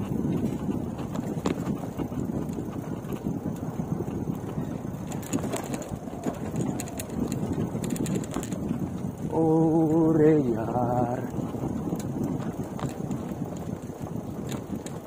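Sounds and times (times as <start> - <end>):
bike clicks and rattles: 0.0 - 15.0
bike rolling over dirt track: 0.0 - 15.0
wind rushing over microphone: 0.0 - 15.0.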